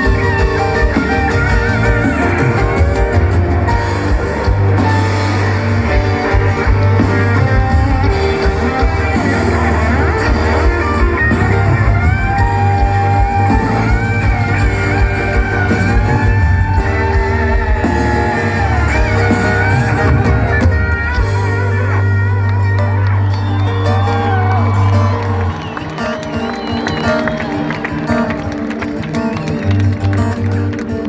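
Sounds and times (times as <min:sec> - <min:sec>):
steady bass: 0:00.0 - 0:25.6
guitar melody: 0:00.0 - 0:31.0.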